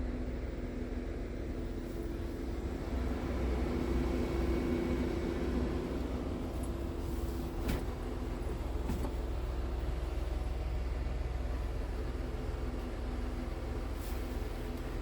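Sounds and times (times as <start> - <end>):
diesel engine idling: 0.1 - 15.0.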